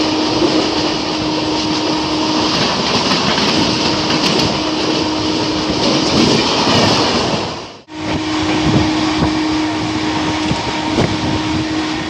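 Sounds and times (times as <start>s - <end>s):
passing train rush and rumble: 0.0s - 12.0s.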